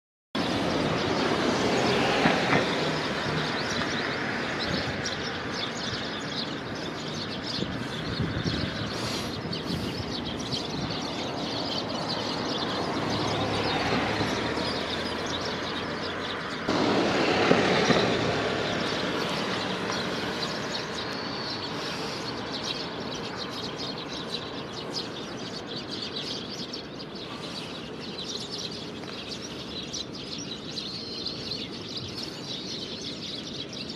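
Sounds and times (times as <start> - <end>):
passing cars: 0.4 - 33.9
sparrows chirping: 0.4 - 33.9.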